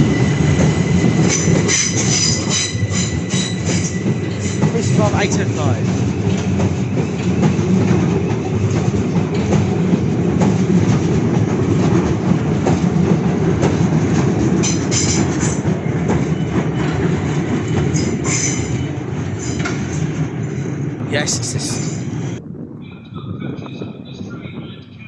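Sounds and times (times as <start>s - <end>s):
train rumbling past: 0.0s - 22.4s.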